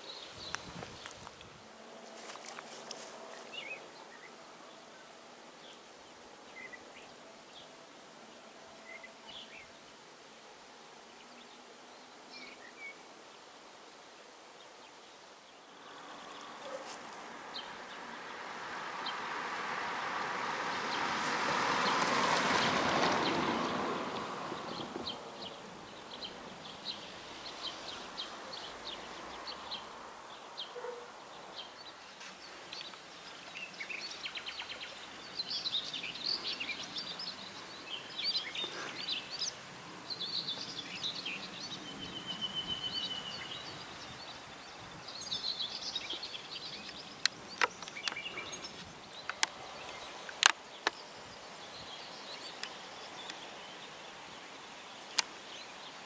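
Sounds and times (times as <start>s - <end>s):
faint outdoor background: 0.0s - 56.0s
songbirds chirping and warbling: 0.0s - 56.0s.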